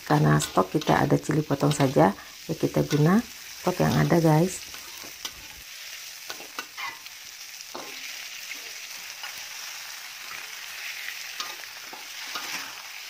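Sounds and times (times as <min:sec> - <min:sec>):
metal spatula scraping a wok: 0:00.0 - 0:07.1, 0:07.7 - 0:13.0
onion sizzling in hot oil: 0:00.0 - 0:13.0.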